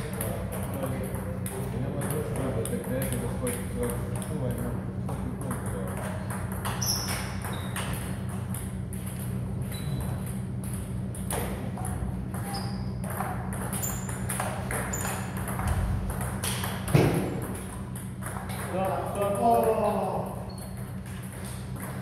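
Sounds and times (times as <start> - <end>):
table tennis balls clicking: 0.1 - 22.0.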